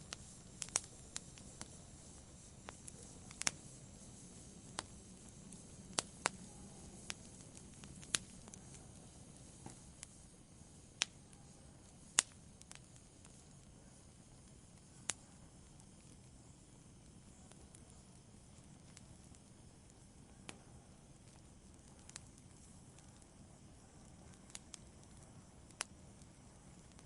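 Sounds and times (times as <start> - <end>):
campfire crackling and popping: 0.0 - 27.0
faint low hiss of flames: 0.0 - 27.0.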